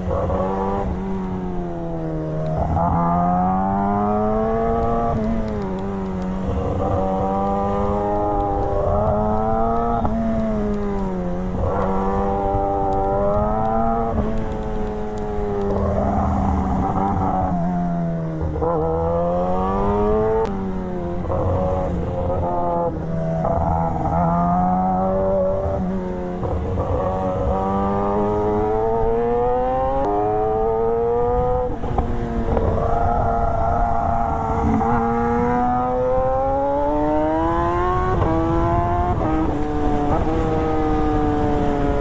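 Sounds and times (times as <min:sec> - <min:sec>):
motorcycle engine revving through gears: 0:00.0 - 0:42.0.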